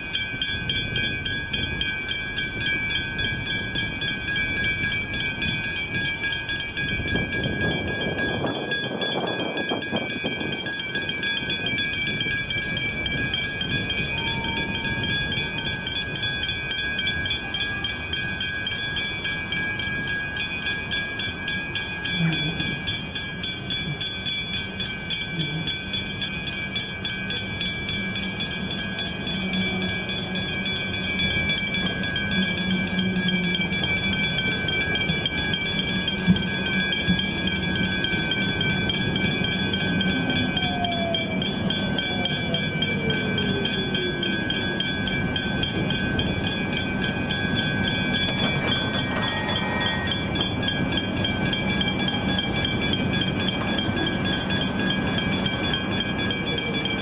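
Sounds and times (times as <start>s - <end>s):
level crossing bells clanging: 0.0s - 57.0s.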